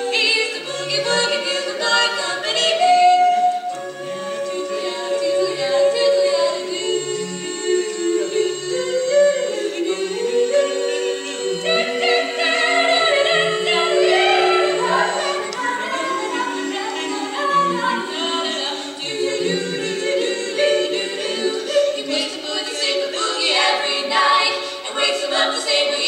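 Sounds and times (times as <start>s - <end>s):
women singing in harmony: 0.0s - 26.0s.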